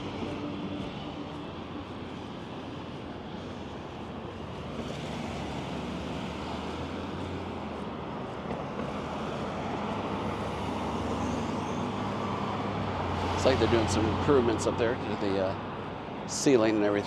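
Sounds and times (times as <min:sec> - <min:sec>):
cars passing on busy street: 0:00.0 - 0:17.0.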